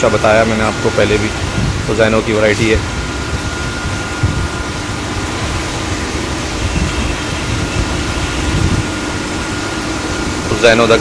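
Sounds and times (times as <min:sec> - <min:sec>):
faint high whine: 0:00.0 - 0:11.0
ventilation fans humming: 0:00.0 - 0:11.0.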